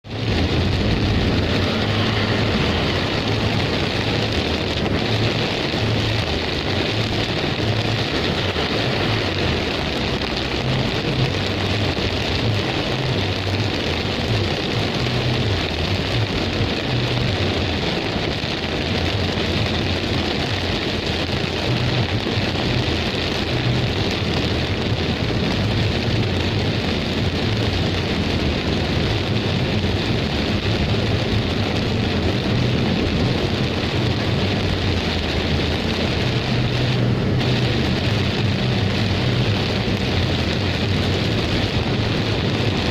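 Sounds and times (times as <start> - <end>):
heavy rain pouring: 0.0 - 42.9
low rumble: 0.0 - 42.9.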